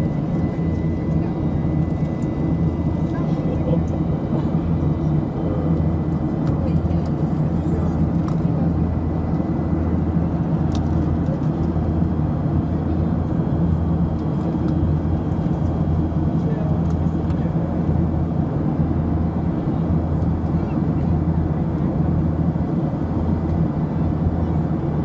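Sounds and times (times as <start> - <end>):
jet engine drone in cabin: 0.0 - 25.0.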